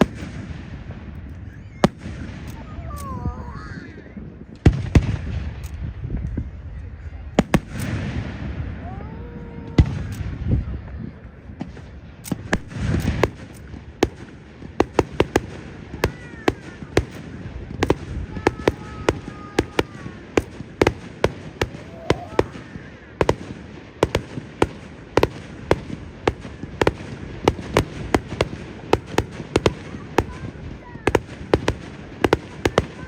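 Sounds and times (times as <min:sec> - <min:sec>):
fireworks bangs and cracks: 0:00.0 - 0:33.0.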